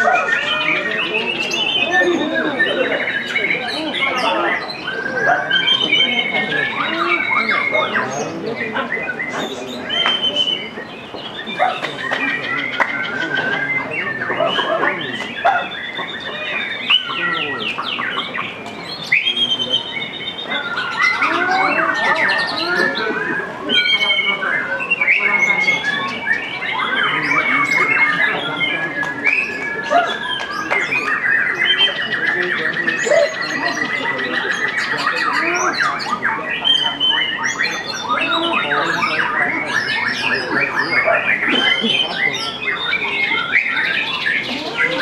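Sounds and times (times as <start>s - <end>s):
birds singing whistles and trills: 0.0s - 45.0s.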